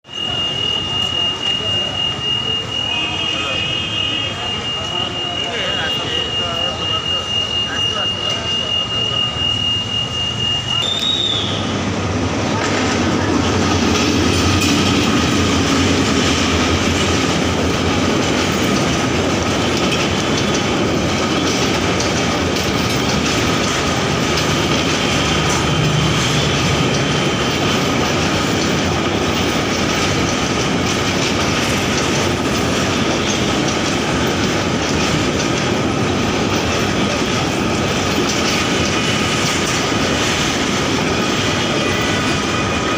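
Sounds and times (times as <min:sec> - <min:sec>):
train wheels rumbling on rails: 0:00.0 - 0:42.9
clickety-clack of rails: 0:00.1 - 0:42.9.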